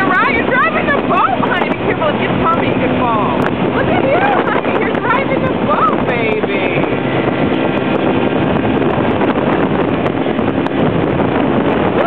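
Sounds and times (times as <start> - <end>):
motorboat engine drone: 0.0 - 12.0
water rushing past hull: 0.0 - 12.0
wind buffeting microphone: 0.0 - 12.0.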